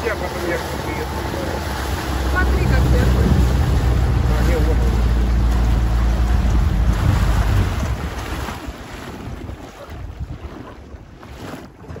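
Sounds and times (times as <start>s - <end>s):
outboard motor humming: 0.0s - 12.0s
water lapping: 0.0s - 12.0s
wind on microphone: 0.8s - 12.0s.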